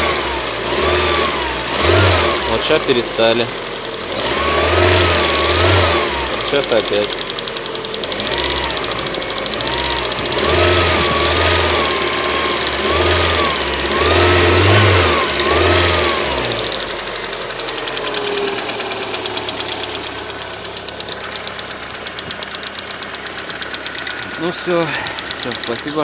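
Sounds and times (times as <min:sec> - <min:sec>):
car engine running: 0:00.0 - 0:26.0
rapid ticking of valve lifters: 0:01.6 - 0:26.0.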